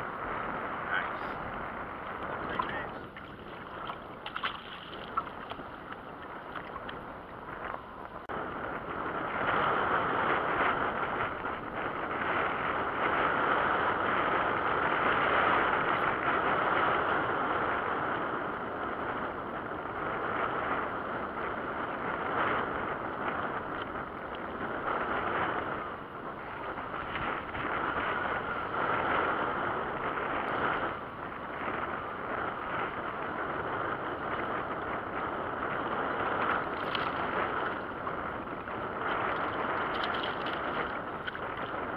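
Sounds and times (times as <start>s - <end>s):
choppy water: 0.0s - 41.9s
waves slapping a hull: 0.0s - 41.9s.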